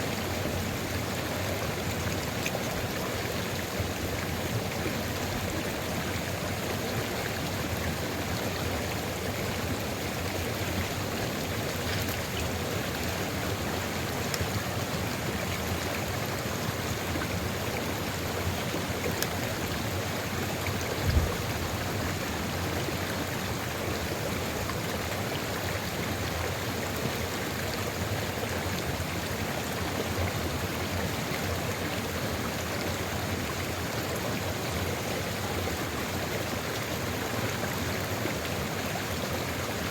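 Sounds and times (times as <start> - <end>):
river stream rushing: 0.0 - 39.9.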